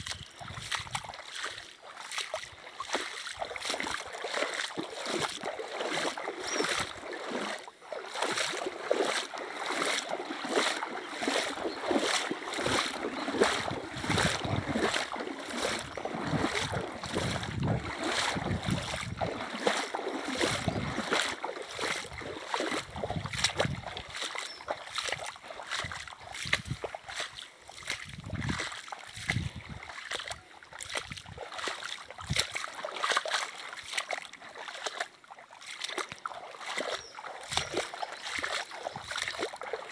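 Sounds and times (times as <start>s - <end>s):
rhythmic water splashing: 0.0s - 39.9s
running river water: 0.0s - 39.9s.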